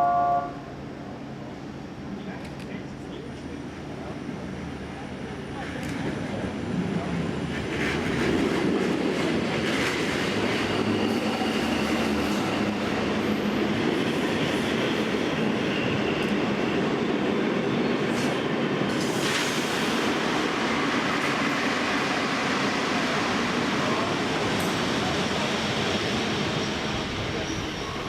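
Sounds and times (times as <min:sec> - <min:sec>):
train rumbling on rails: 0:00.0 - 0:28.0.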